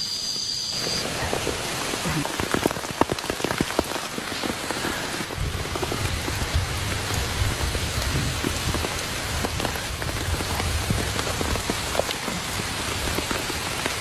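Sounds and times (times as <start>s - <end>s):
rain pattering on a surface: 0.8s - 14.0s.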